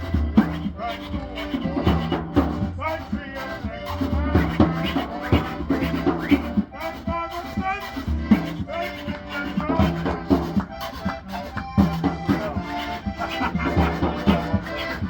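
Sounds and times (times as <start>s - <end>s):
band playing dance music: 0.0s - 15.0s.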